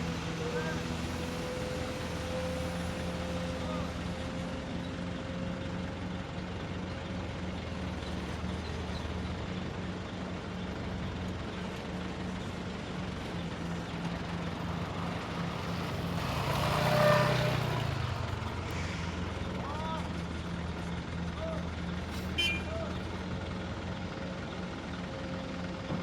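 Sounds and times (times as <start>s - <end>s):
construction machine engine: 0.0s - 26.0s.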